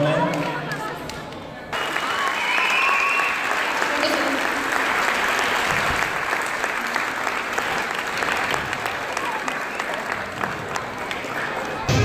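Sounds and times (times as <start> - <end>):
audience applauding: 1.7 - 11.9.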